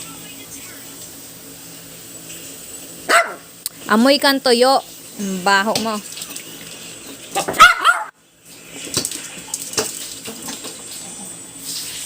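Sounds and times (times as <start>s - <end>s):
tap water running: 0.9s - 12.0s.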